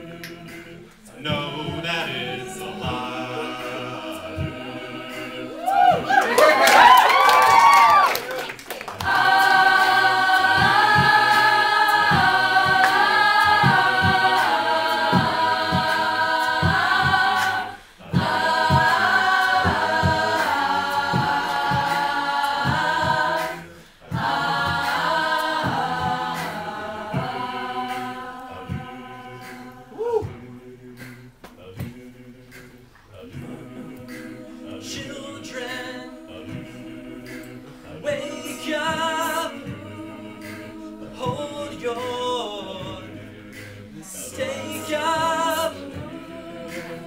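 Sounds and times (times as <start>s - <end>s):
steady low beat: 0.0s - 6.2s, 9.0s - 47.0s
a cappella group singing harmony: 0.0s - 47.0s.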